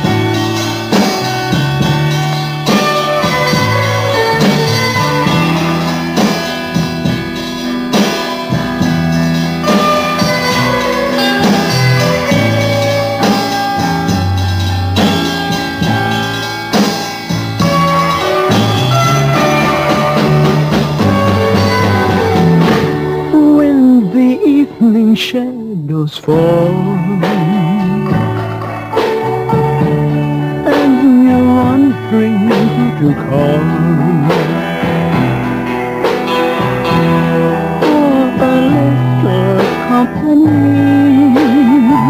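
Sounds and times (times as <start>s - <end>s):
drums: 0.0s - 42.0s
electric guitar: 0.0s - 42.0s
stepping bass line: 0.0s - 42.0s.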